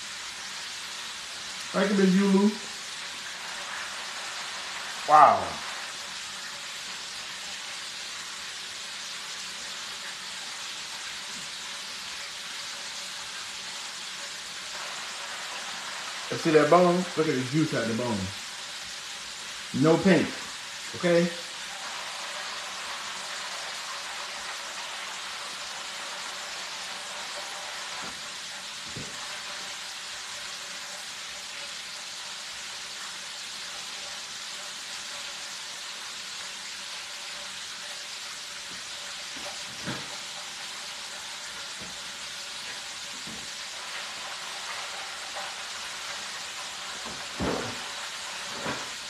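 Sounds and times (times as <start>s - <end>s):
hot oil sizzling in deep fryer: 0.0s - 49.0s.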